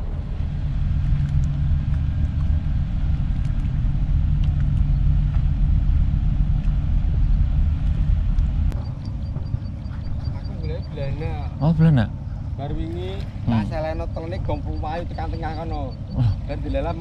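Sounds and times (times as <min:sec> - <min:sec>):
boat diesel engine rumble: 0:00.0 - 0:17.0.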